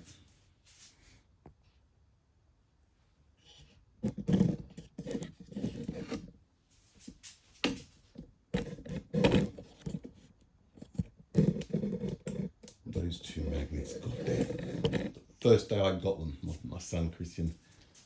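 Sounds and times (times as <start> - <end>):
objects scraping and rustling: 0.0 - 1.3, 3.4 - 18.0.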